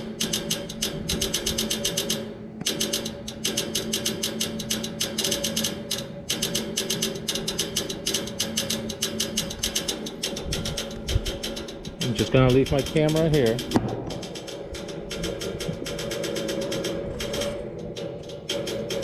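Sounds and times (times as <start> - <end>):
air conditioner clicking rapidly: 0.0 - 19.0
steady hum: 0.0 - 19.0.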